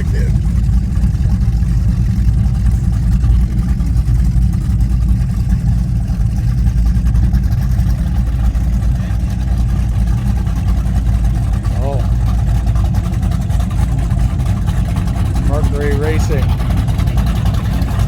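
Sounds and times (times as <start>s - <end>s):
powerboat engines rumbling: 0.0s - 18.0s.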